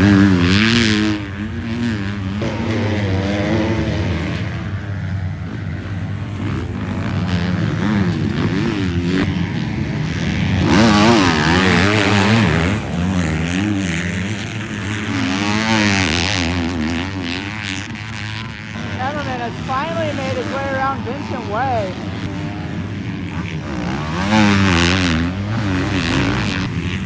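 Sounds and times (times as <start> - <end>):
motorbike engines revving: 0.0 - 27.0.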